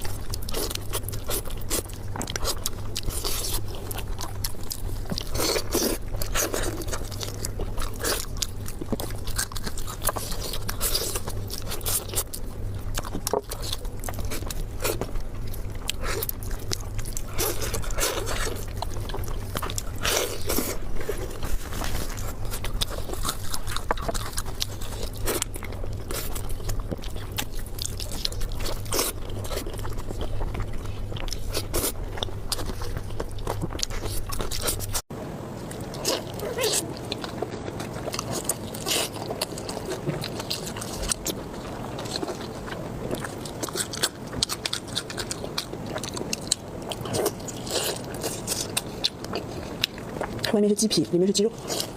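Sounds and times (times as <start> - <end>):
person chewing crunchy food: 0.0 - 51.9
steady low hum: 0.0 - 51.9.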